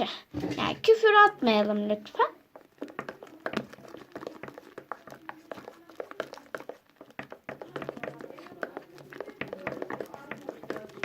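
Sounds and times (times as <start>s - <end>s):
slime squelching: 0.6s - 11.0s.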